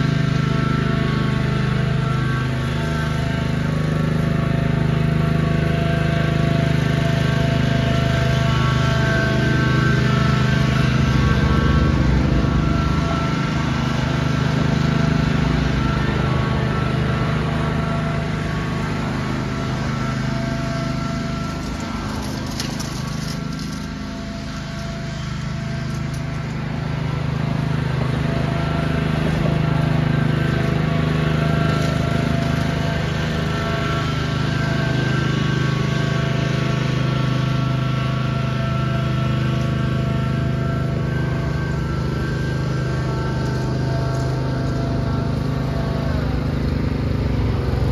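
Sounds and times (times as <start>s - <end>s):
lawn tractor engine running: 0.0s - 47.9s.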